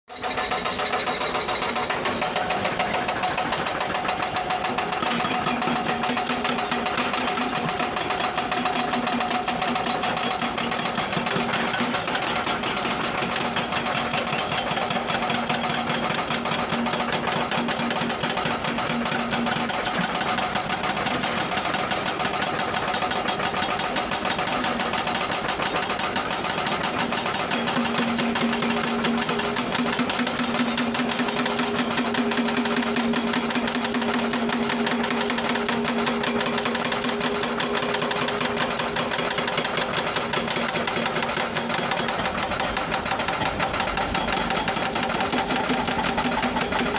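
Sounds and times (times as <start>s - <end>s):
machinery rattling clatter: 0.1s - 46.9s.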